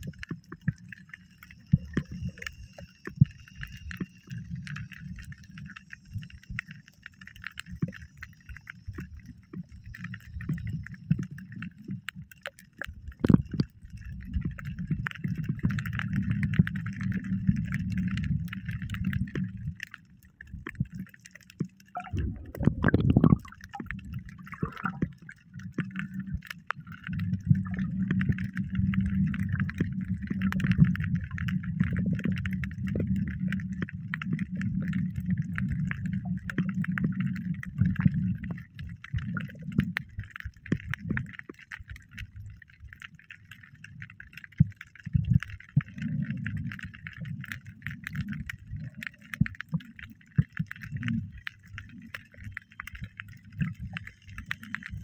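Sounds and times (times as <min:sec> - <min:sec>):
muffled water sloshing underwater: 0:00.0 - 0:55.0
small underwater clicks: 0:00.0 - 0:55.0.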